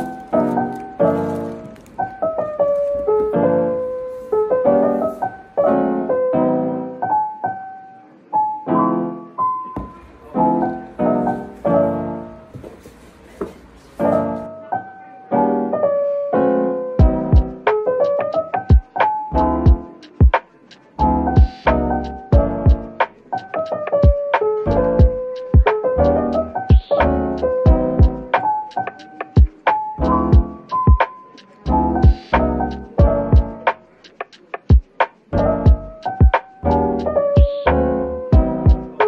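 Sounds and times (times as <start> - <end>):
gentle piano tune: 0.0 - 39.0.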